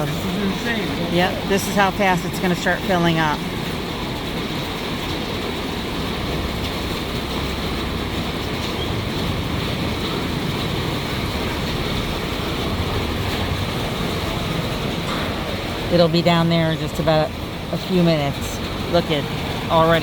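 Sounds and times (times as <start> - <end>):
heavy rain: 0.0 - 20.0
running floodwater: 0.0 - 20.0.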